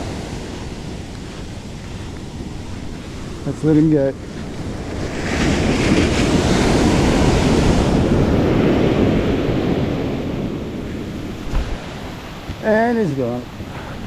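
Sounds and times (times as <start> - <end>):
surf wave breaking on sand: 0.0 - 14.0.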